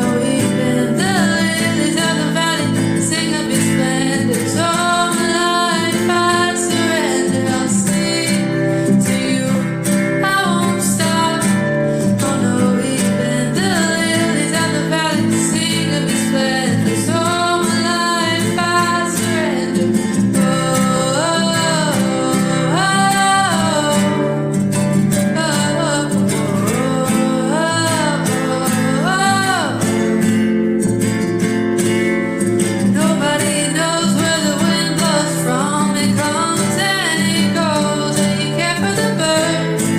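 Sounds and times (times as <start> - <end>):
acoustic guitar: 0.0 - 39.9
person singing: 0.0 - 39.9.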